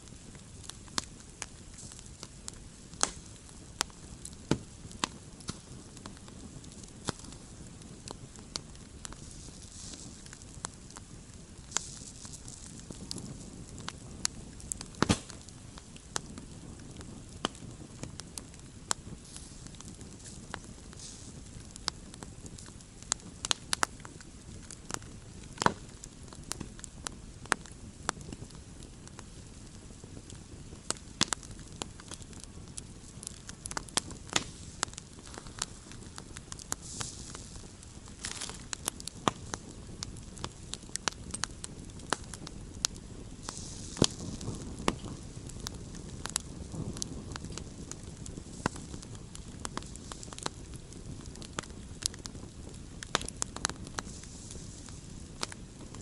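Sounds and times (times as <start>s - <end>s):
campfire crackling: 0.0s - 56.0s
fire hissing flare-ups: 0.0s - 56.0s.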